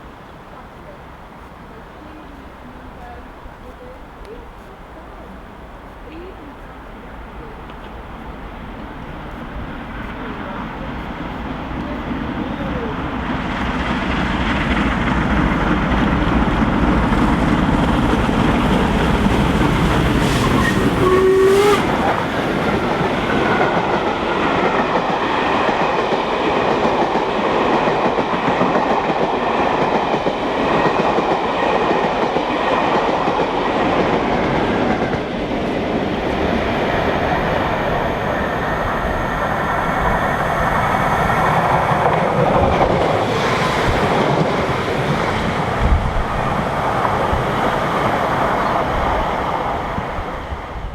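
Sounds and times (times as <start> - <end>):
steam locomotive roaring past: 0.0 - 50.9.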